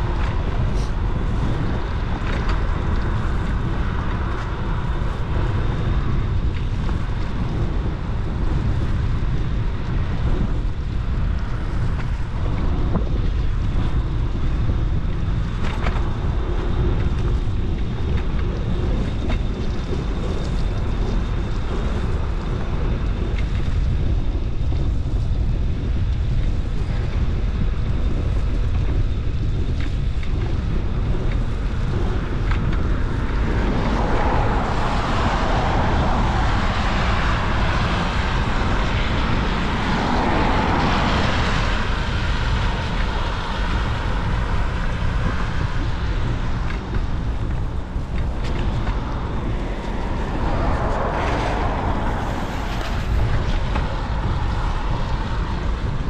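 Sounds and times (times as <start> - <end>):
wind on microphone: 0.0 - 56.0.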